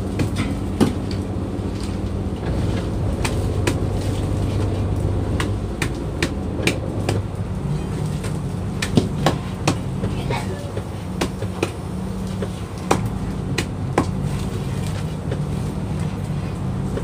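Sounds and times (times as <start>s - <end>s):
boat engine and hauler hum: 0.0s - 17.0s.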